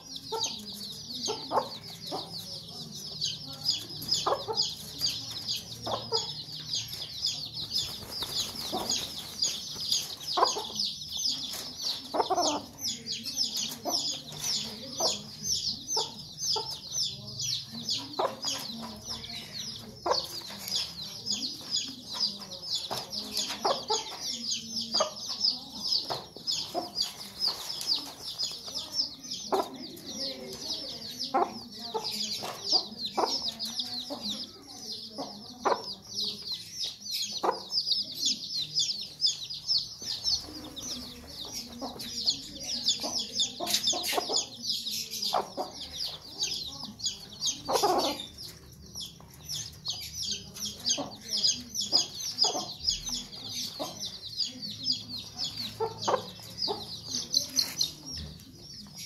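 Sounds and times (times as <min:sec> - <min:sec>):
chicks peeping: 0:00.0 - 0:59.0
hen clucking: 0:00.0 - 0:59.0.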